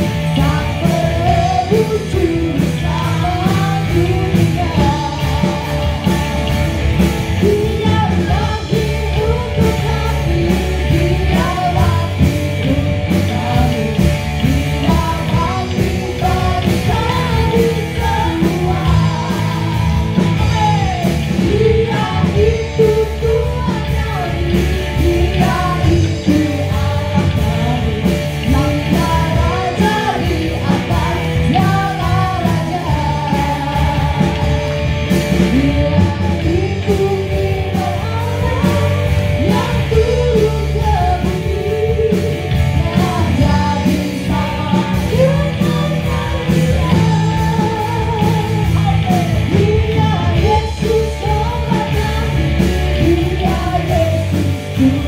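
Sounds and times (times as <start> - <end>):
bass: 0.0 - 55.0
drums: 0.0 - 55.0
person singing melody: 0.0 - 55.0
worship band music: 0.0 - 55.0.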